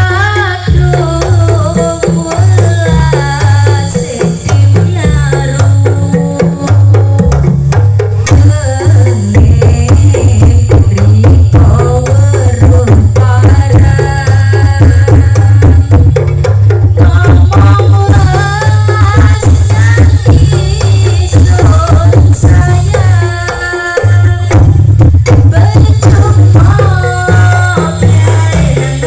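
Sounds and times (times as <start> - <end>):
hand drums beating: 0.0 - 29.0.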